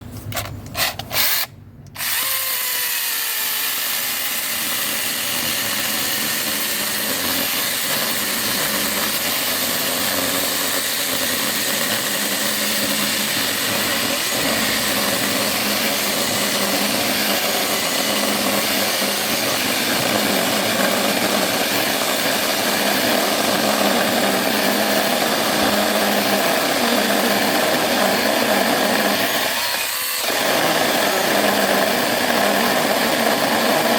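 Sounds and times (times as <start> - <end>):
electric chainsaw running: 1.2 - 33.9.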